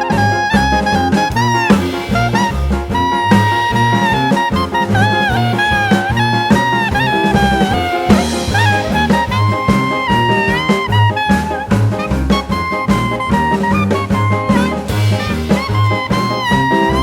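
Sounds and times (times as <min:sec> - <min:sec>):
upbeat jazz with saxophone melody: 0:00.0 - 0:17.0.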